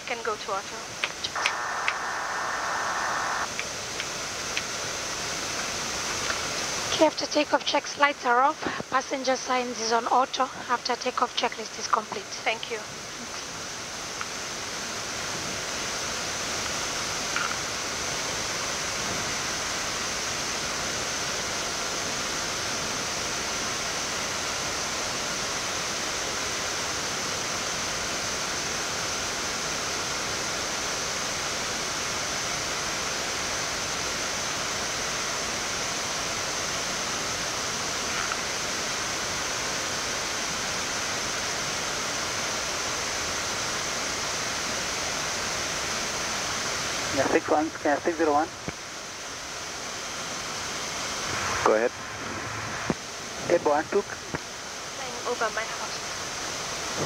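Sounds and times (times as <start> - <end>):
faint high whine: 0.0 - 57.0.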